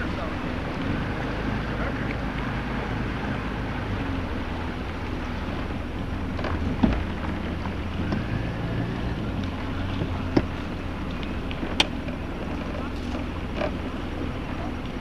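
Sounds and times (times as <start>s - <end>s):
boat motor running: 0.0s - 15.0s
water and wind noise: 0.0s - 15.0s.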